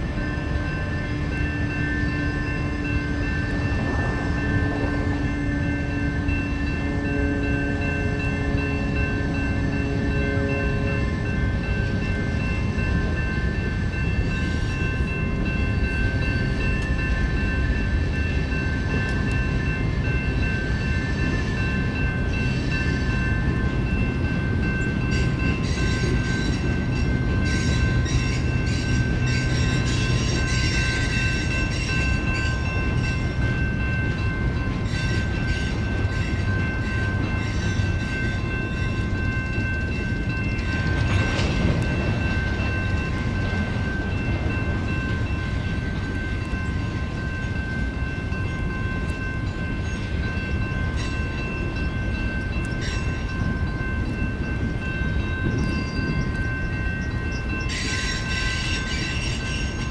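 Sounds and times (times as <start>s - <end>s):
high-pitched steady tones: 0.0s - 59.9s
train rumbling past: 0.0s - 59.9s.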